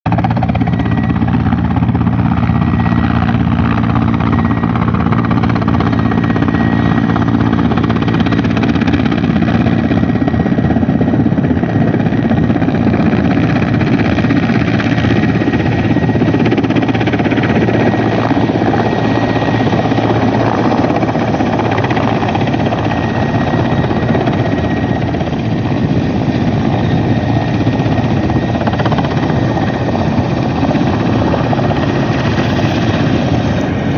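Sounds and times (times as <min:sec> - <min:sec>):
helicopter hovering: 0:00.1 - 0:33.9.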